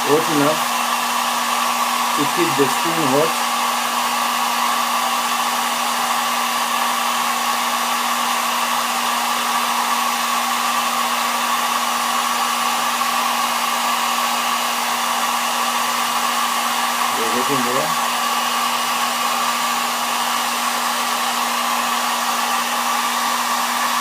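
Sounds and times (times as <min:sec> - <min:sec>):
hot-air blower running: 0:00.0 - 0:24.0.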